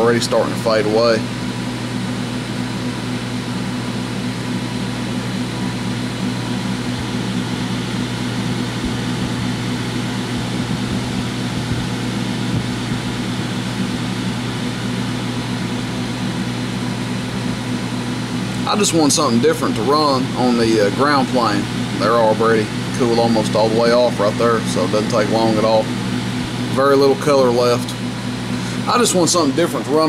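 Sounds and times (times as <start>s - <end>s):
cooling fans humming: 0.0s - 30.0s.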